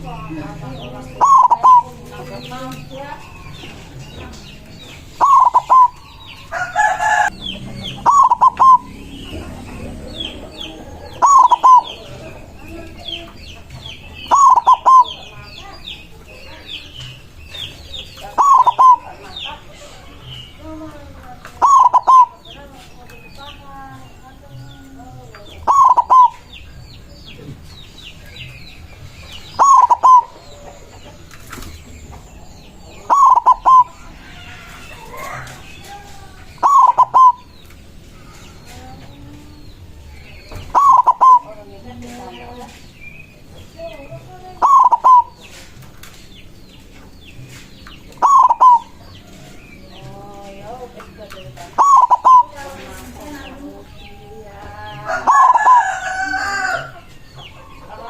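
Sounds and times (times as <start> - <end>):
dove cooing song: 0.0 - 58.0
small birds chirping faintly: 0.0 - 58.0.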